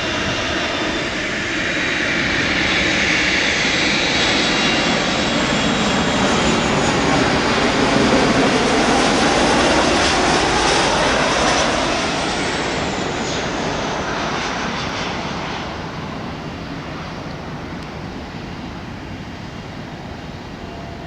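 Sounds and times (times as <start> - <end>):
jet engines: 0.0 - 21.0.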